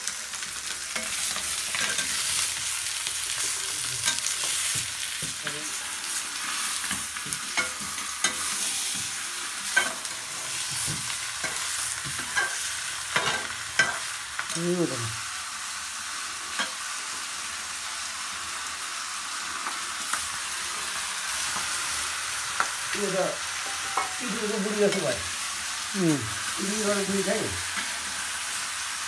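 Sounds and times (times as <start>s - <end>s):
curry sizzling in oil: 0.0s - 29.0s.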